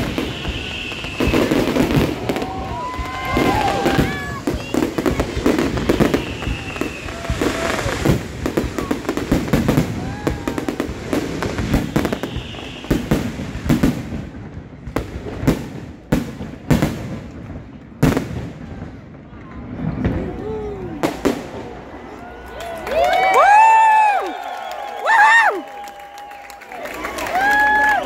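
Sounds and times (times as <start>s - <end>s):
fireworks bangs and crackling: 0.0s - 26.4s.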